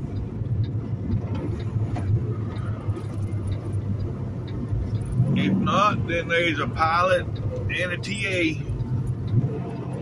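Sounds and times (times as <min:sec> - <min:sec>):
diesel engine drone: 0:00.0 - 0:10.0
tyre and road noise: 0:00.0 - 0:10.0.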